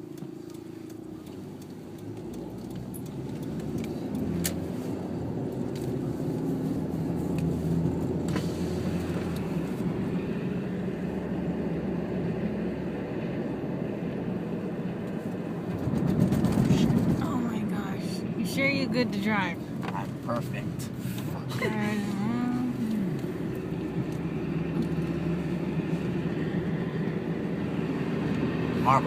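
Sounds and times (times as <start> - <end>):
engine and tyre rumble: 0.0 - 29.0.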